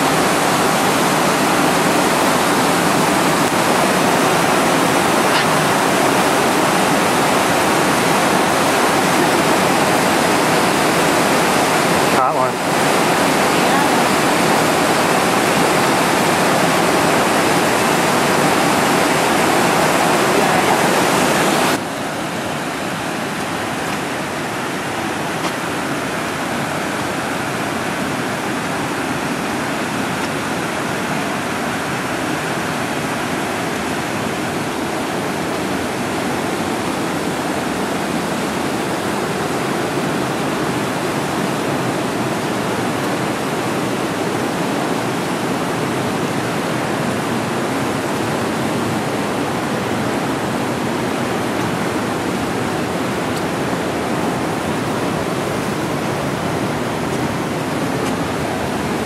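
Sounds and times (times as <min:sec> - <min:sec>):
creek water rushing over rocks: 0:00.0 - 0:59.0.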